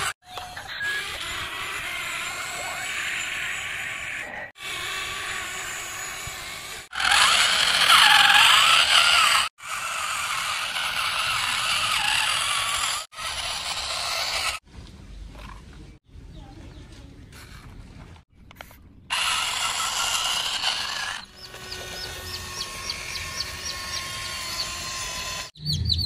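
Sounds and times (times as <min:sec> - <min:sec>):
toy truck motors whirring: 0:00.0 - 0:14.6, 0:18.6 - 0:25.6.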